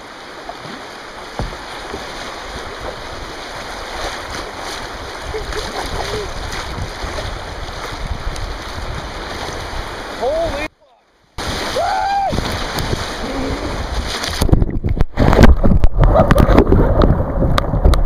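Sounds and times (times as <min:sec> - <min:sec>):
river water rushing and splashing: 0:00.0 - 0:18.0.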